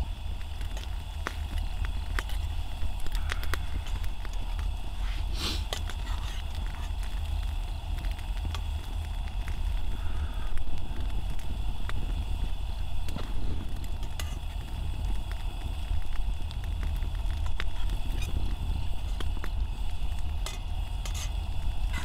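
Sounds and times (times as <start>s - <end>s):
steady low rumble: 0.0s - 22.0s
wood fire crackling: 0.0s - 22.0s.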